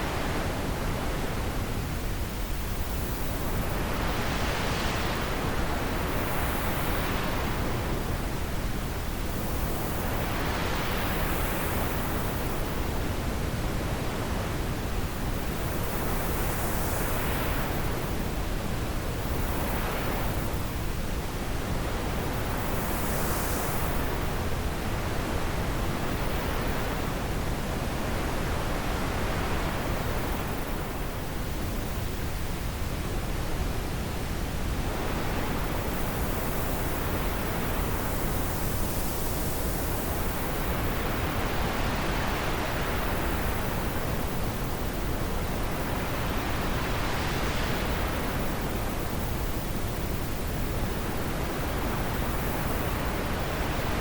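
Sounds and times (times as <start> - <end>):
wind blowing in gusts: 0.0 - 54.0.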